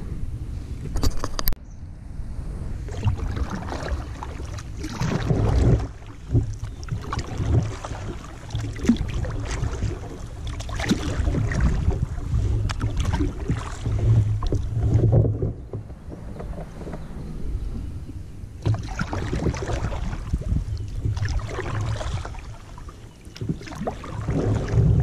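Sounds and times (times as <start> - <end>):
wind buffeting microphone: 0.0 - 25.0
paddle splashing water: 2.8 - 25.0.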